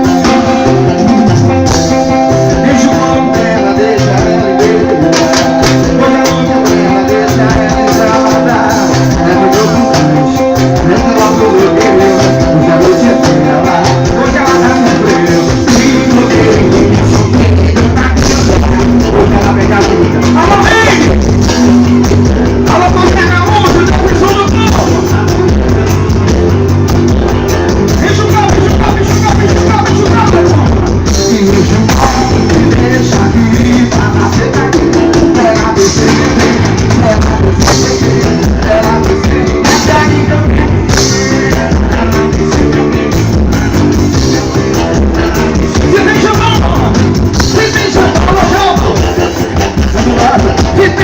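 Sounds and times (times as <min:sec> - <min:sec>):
band music with singing: 0:00.0 - 0:51.0
driving drums: 0:00.0 - 0:51.0.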